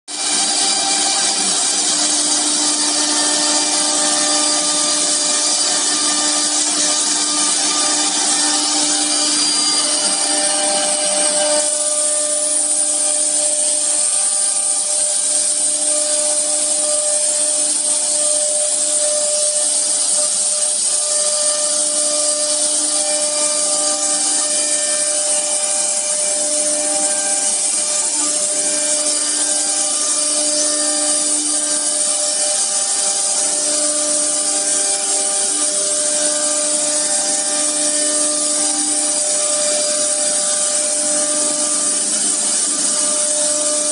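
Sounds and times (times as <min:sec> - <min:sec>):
cnc router spindle cutting: 0:00.1 - 0:43.9.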